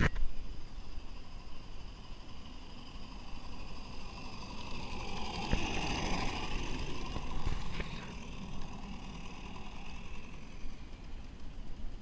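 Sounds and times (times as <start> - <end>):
model train running on track: 0.3 - 12.0.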